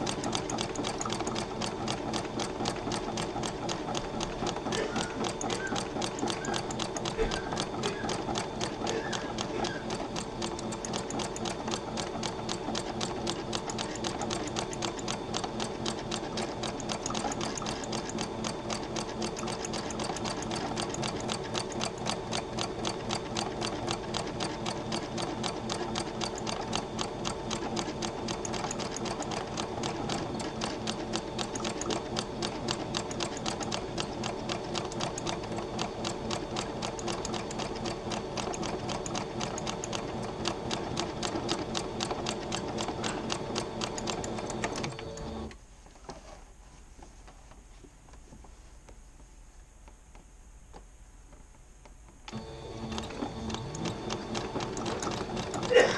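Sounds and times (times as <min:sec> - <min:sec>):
sewing machine stitching: 0:00.0 - 0:46.2, 0:52.3 - 0:55.9.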